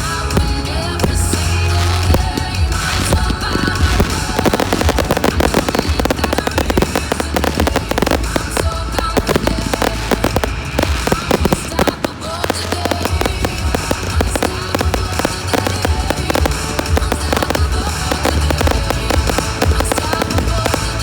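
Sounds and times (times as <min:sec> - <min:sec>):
fireworks bangs and crackles: 0:00.0 - 0:21.0
pop music playing: 0:00.0 - 0:21.0.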